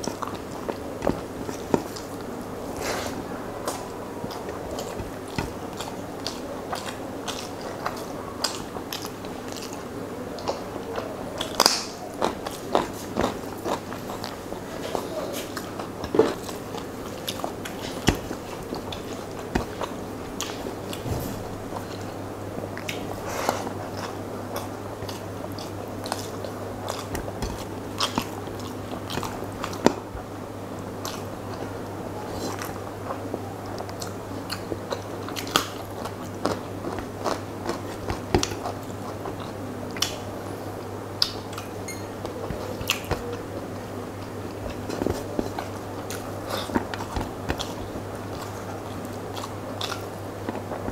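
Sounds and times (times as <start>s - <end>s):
person chewing and eating: 0.0s - 50.9s.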